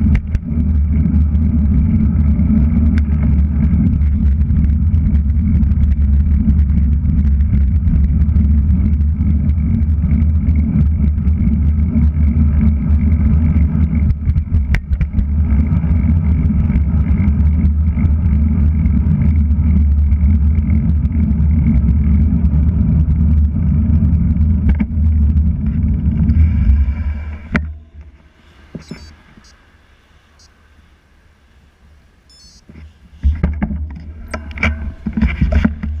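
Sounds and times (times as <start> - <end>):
road rumble: 0.0 - 36.0.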